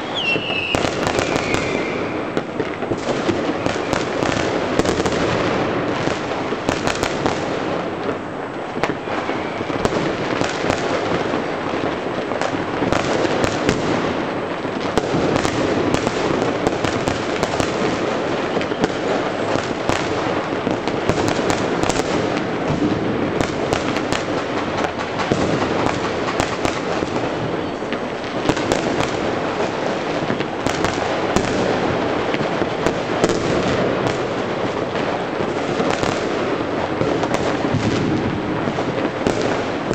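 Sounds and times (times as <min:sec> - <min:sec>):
fireworks and firecrackers bursting: 0:00.0 - 0:39.9.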